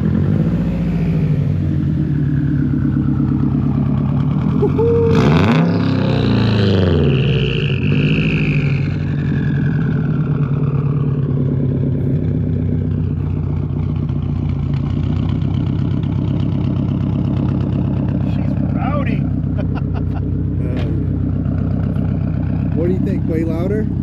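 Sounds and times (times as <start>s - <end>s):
car engine revving and idling: 0.0s - 24.0s.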